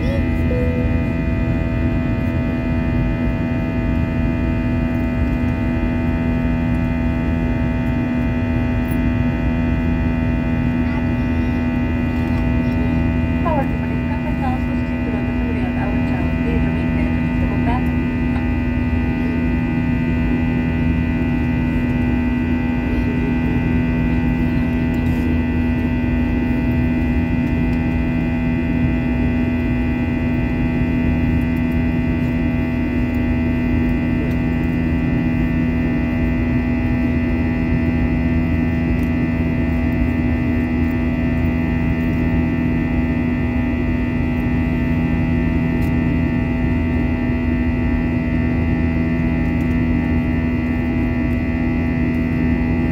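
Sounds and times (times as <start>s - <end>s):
aircraft cabin engine drone: 0.0s - 52.9s.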